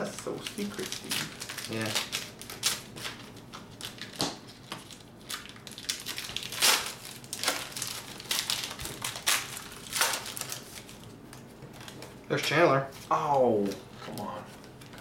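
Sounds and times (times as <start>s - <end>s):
foil wrappers crinkling: 0.0s - 15.0s.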